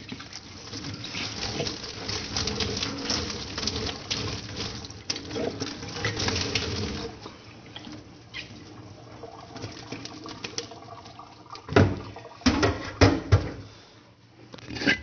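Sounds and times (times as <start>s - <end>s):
water dripping and splashing: 0.0s - 13.2s.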